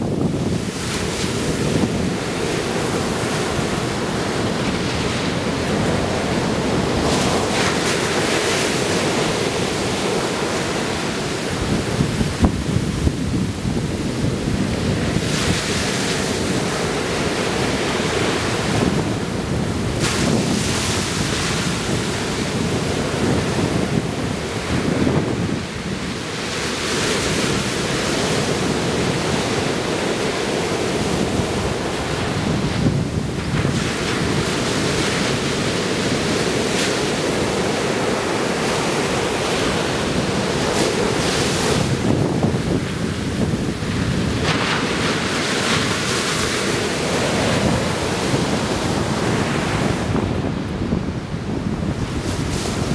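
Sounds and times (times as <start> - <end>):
ocean surf breaking: 0.0 - 52.9
wind buffeting microphone: 0.0 - 52.9.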